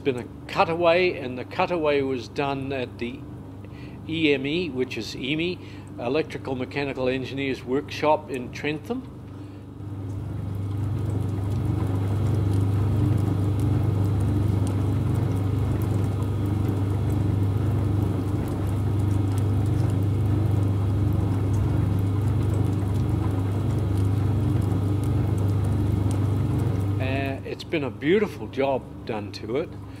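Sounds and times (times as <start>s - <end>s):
low machinery hum: 0.0s - 30.0s.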